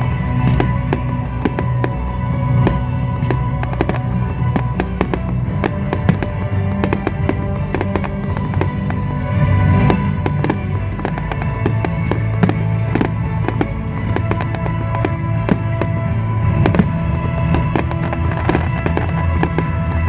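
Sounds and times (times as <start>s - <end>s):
fireworks bangs and crackles: 0.0s - 20.0s
loud music playing: 0.0s - 20.0s.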